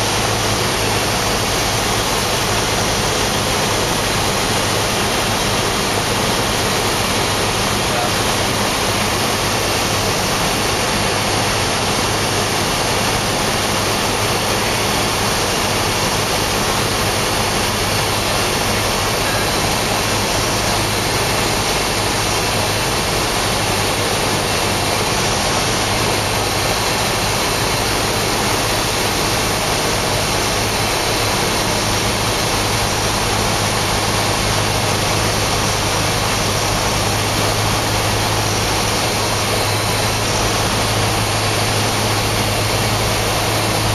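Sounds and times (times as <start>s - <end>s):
airflow rush: 0.0s - 43.9s
airplane engine drone: 0.0s - 43.9s.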